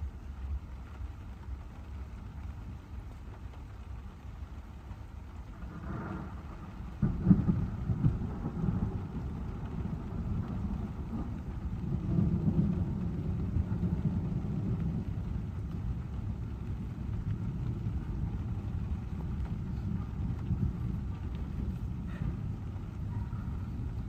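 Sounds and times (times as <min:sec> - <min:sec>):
car driving in heavy rain: 0:00.3 - 0:24.0
low rumble of thunder: 0:00.4 - 0:24.0.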